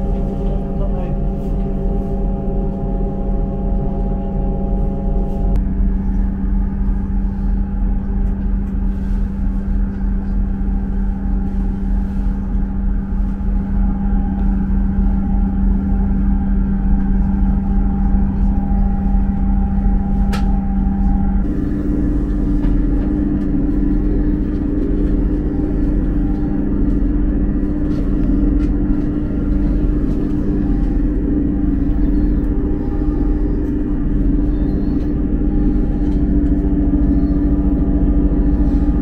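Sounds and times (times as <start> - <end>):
train engine humming: 0.0 - 39.0.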